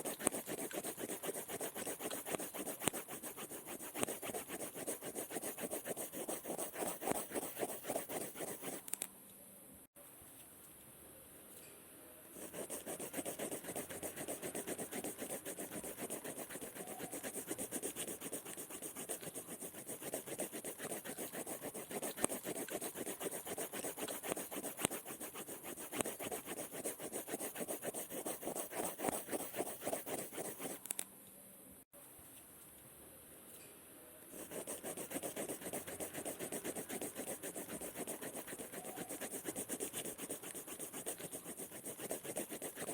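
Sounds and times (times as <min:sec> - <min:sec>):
pen scribbling on paper: 0:00.0 - 0:08.8, 0:12.4 - 0:30.8, 0:34.4 - 0:42.9.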